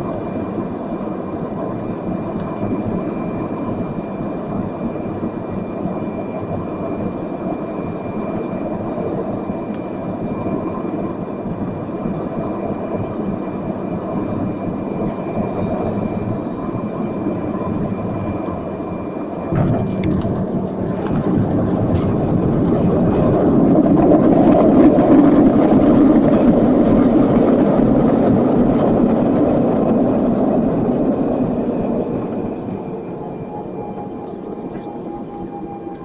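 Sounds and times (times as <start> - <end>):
jet engines and airflow in cabin: 0.0 - 36.0.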